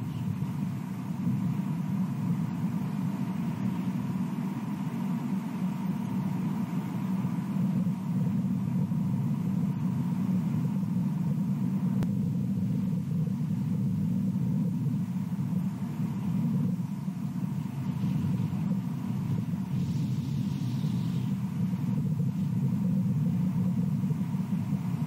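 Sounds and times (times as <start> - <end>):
faint thin steady tone: 0.0 - 25.0
low background rumble: 0.0 - 25.0.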